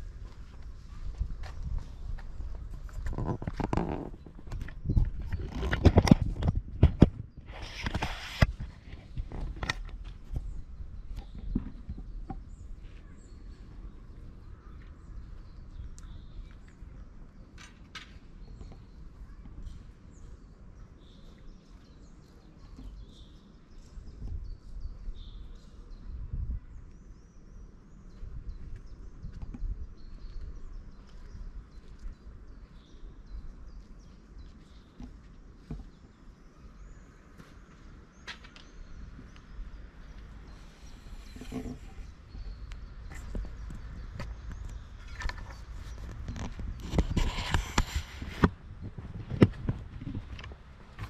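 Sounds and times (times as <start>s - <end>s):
wind rumble on microphone: 0.0s - 17.5s, 18.2s - 51.0s
songbirds chirping: 0.0s - 51.0s.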